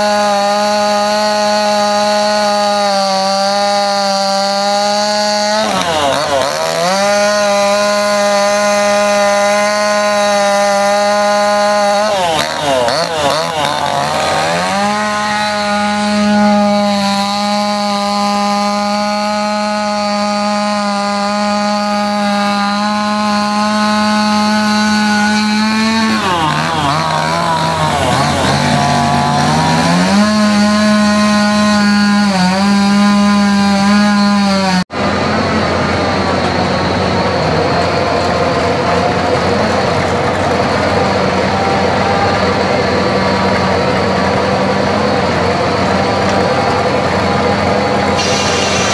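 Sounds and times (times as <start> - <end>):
chainsaw cutting wood: 0.0 - 35.1, 37.2 - 48.9.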